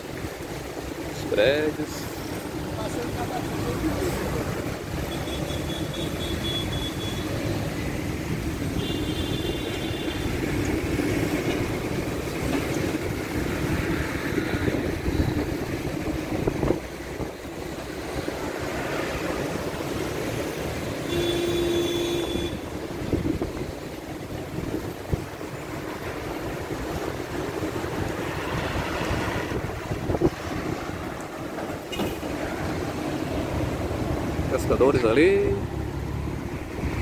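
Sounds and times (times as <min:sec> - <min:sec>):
city road traffic: 0:00.0 - 0:37.0.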